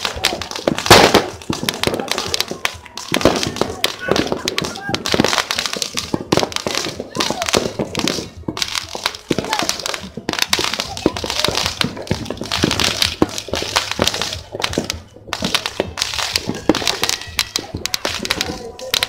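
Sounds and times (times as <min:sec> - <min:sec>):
firecrackers popping and crackling: 0:00.0 - 0:19.0.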